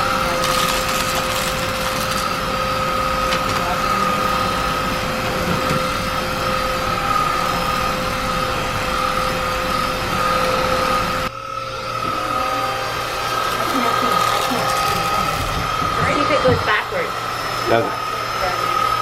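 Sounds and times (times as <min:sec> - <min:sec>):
stick vacuum running: 0:00.0 - 0:19.0.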